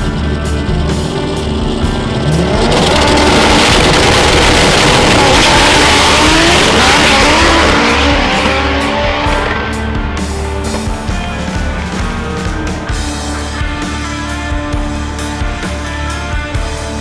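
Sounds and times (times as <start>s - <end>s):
race car engine accelerating: 0.0s - 14.7s
background music: 0.0s - 17.0s.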